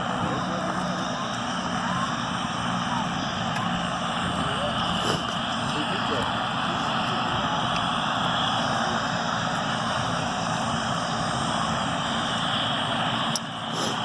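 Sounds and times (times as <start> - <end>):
helicopter rotor and turbine: 0.0 - 14.0.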